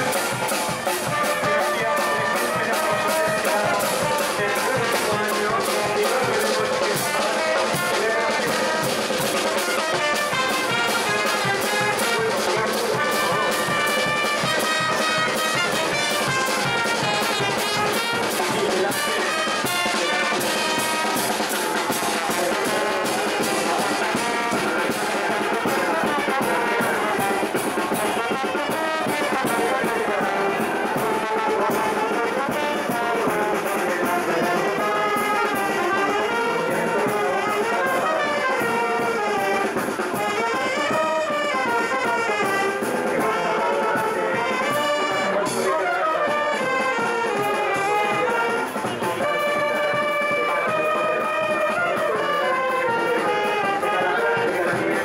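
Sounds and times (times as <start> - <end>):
steady drum beat: 0.0 - 55.0
trumpets and trombones: 0.0 - 55.0.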